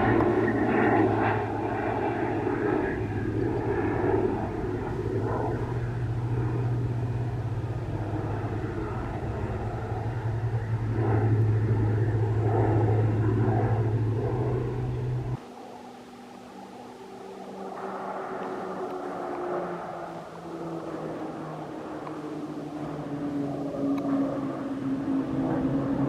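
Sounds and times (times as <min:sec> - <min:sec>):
propeller aircraft drone: 0:00.0 - 0:26.0.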